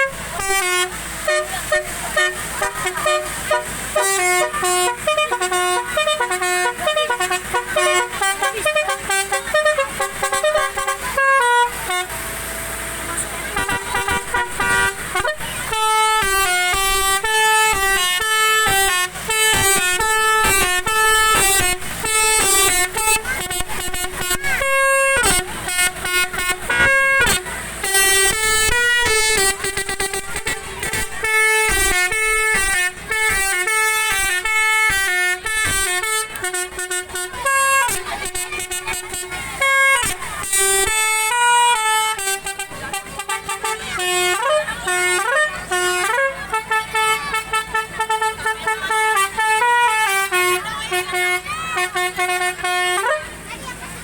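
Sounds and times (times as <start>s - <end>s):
multi-tone horn playing tune: 0.0s - 53.6s.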